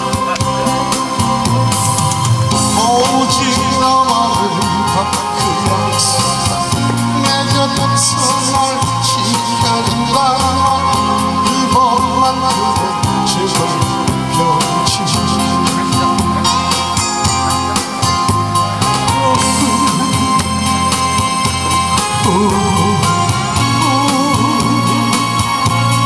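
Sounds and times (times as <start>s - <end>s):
electronic keyboard: 0.0s - 26.0s
steady drum beat: 0.0s - 26.0s
man singing with vibrato: 2.5s - 17.3s, 18.2s - 26.0s.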